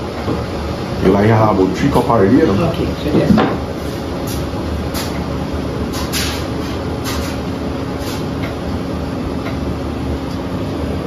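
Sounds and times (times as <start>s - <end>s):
appliance hum and airflow: 0.0s - 11.0s.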